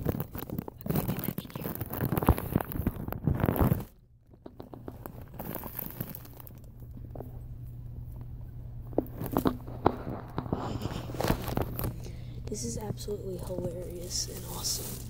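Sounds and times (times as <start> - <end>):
plastic wrapping crinkling: 0.0 - 7.4, 8.1 - 15.0.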